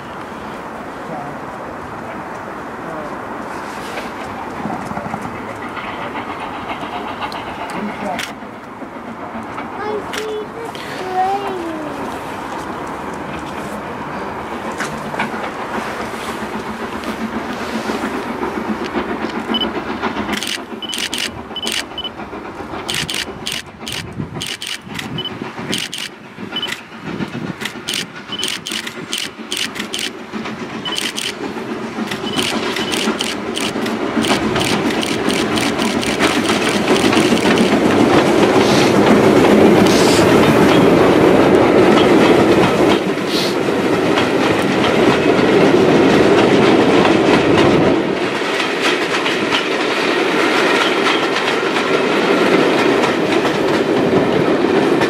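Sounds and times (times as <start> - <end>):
steam locomotive exhaust beats: 0.0 - 55.0
train wheels clicking on rails: 0.0 - 55.0.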